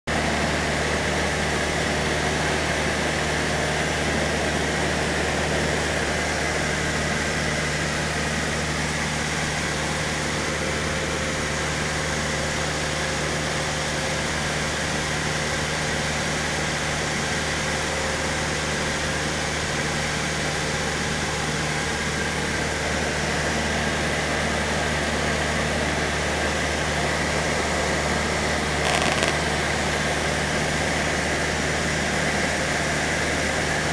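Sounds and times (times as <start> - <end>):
propeller plane engine droning: 0.1 - 33.9.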